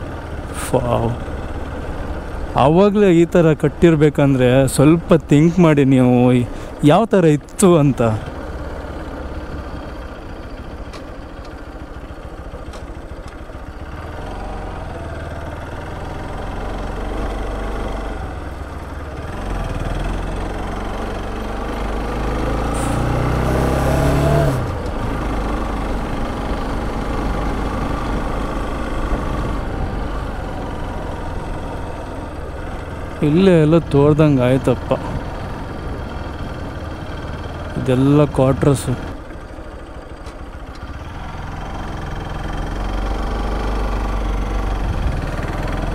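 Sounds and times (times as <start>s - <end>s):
motorcycle engine running: 0.0s - 6.8s, 7.4s - 45.9s.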